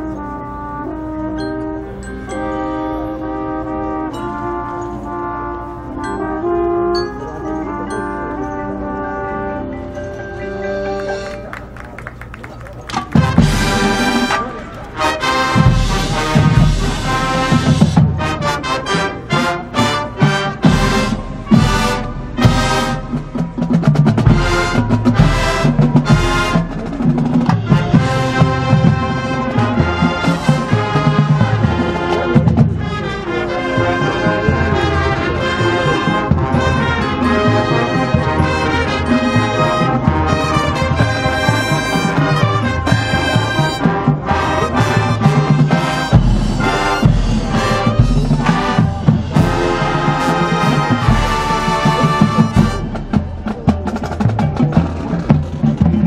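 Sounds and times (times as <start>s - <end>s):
marching band brass: 0.0s - 56.0s
drumline: 8.5s - 56.0s.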